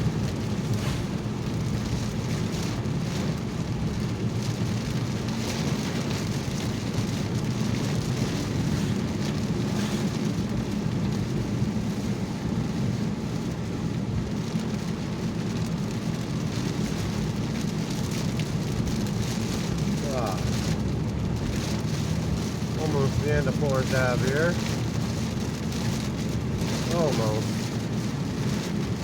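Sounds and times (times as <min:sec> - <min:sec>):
car driving on wet road: 0:00.0 - 0:29.0
rain on car roof: 0:00.0 - 0:29.0.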